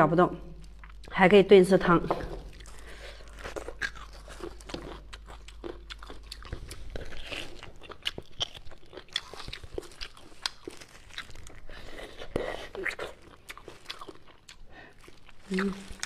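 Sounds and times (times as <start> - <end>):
person chewing and biting: 2.4 - 16.0.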